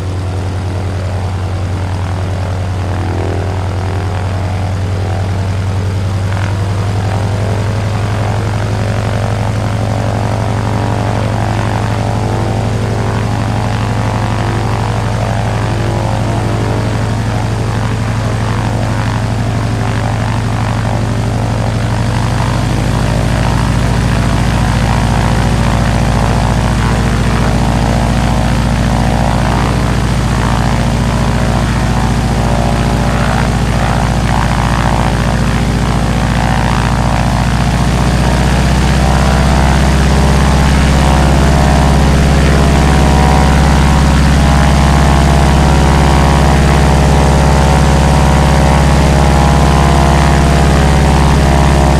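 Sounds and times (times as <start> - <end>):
radial engine and propeller idling: 0.0 - 51.9.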